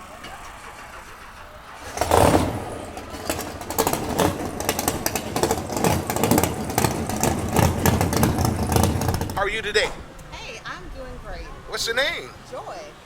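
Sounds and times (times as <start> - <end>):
car engine uneven idle: 0.0 - 13.0
exhaust popping: 0.0 - 13.0.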